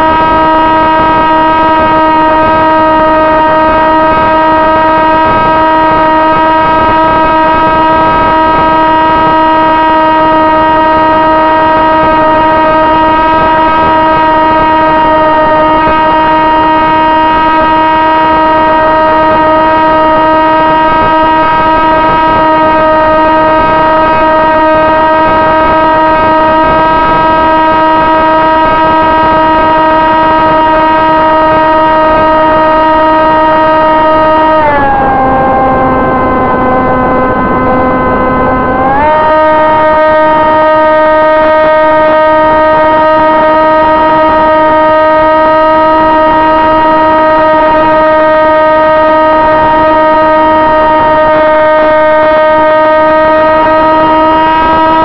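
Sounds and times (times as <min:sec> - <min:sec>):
electric motor and propeller whining: 0:00.0 - 0:55.0.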